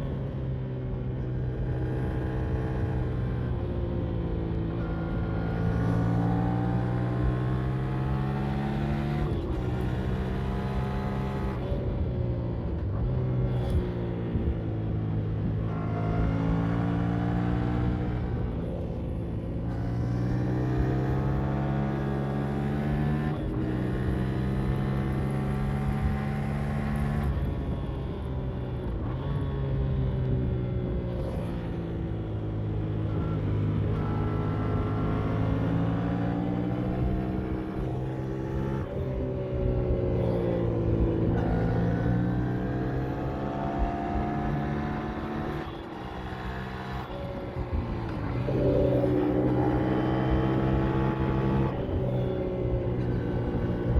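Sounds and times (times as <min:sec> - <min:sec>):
gear changes: 0:01.0 - 0:53.9
motorcycle engine revving: 0:01.4 - 0:12.0, 0:12.7 - 0:53.9.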